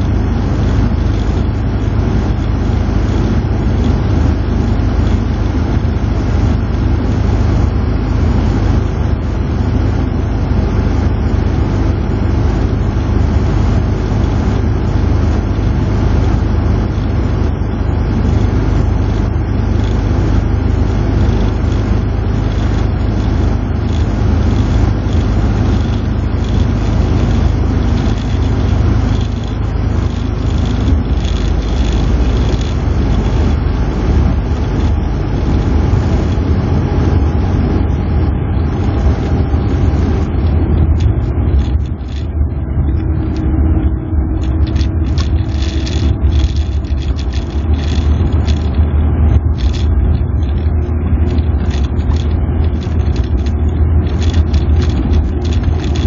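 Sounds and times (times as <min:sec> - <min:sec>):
car engine running: 0:00.0 - 0:56.0
tyre and road noise: 0:00.0 - 0:56.0.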